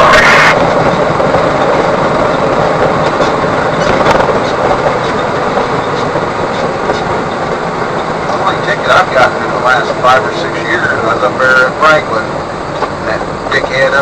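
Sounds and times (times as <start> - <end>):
truck road noise and engine rumble: 0.0 - 14.0.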